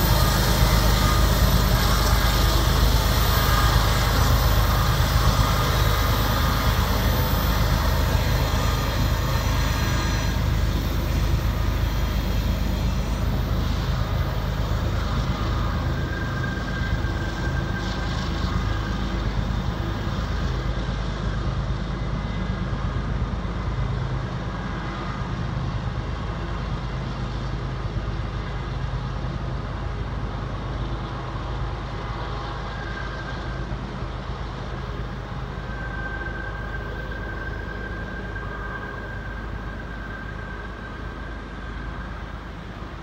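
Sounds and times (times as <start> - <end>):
freight train rumbling: 0.0 - 43.0.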